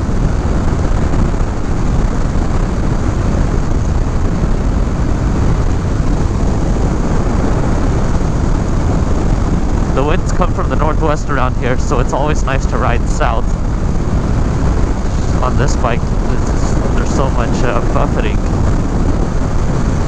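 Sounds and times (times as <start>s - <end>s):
motorcycle engine rumble: 0.0s - 20.0s
road noise: 0.0s - 20.0s
wind rushing on microphone: 0.0s - 20.0s.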